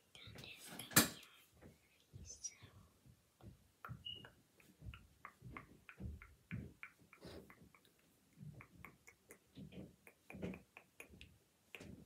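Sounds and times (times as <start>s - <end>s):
brush tapping on microphone: 0.2s - 12.0s.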